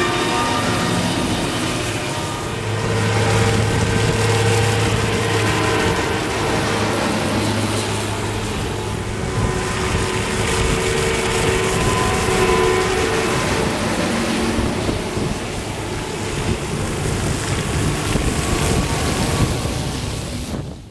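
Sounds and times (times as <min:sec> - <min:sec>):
tyres hissing on wet road: 0:00.0 - 0:20.8
farm vehicle engines: 0:00.0 - 0:20.9.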